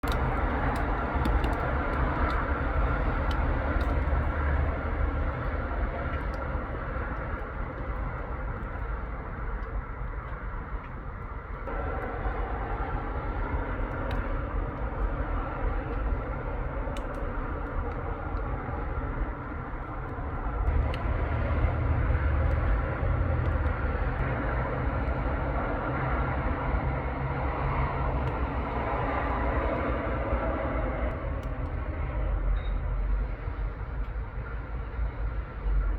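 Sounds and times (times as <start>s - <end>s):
heavy engine rumble: 0.0s - 35.9s
road traffic passing: 0.0s - 35.9s.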